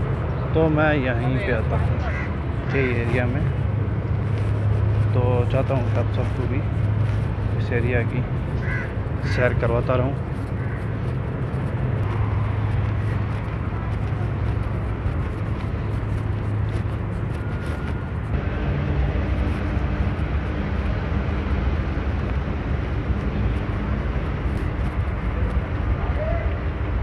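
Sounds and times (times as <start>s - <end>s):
low engine drone: 0.0s - 27.0s
outdoor ambience: 0.0s - 27.0s.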